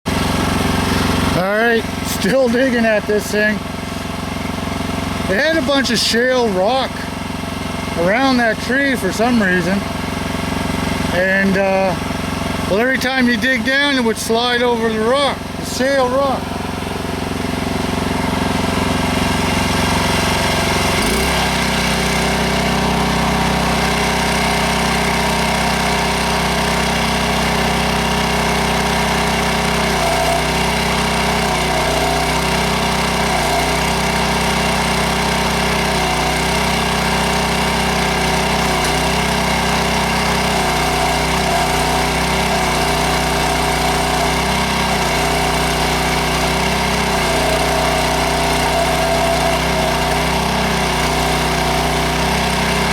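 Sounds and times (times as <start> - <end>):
small gas engine running: 0.0 - 52.9.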